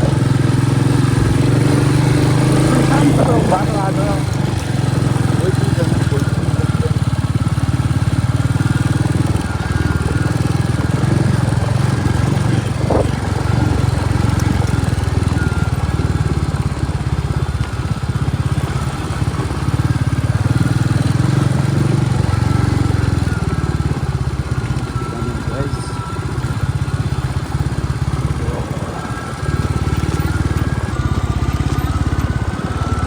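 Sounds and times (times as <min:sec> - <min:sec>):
motorcycle engine thumping: 0:00.0 - 0:33.0.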